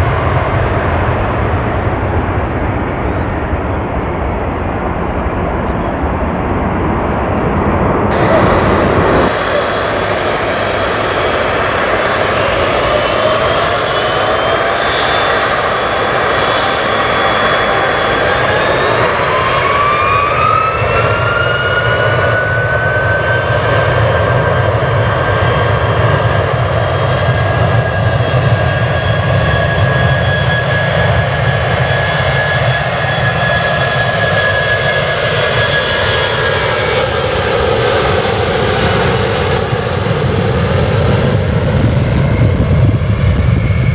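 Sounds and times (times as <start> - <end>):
jet engine whine: 0.0 - 43.9
jet engines roaring: 0.0 - 43.9.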